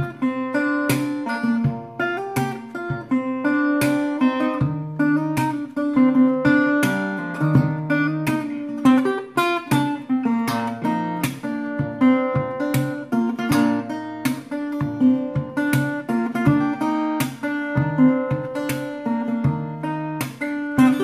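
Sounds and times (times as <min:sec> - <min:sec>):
fingerstyle acoustic guitar: 0:00.0 - 0:21.0.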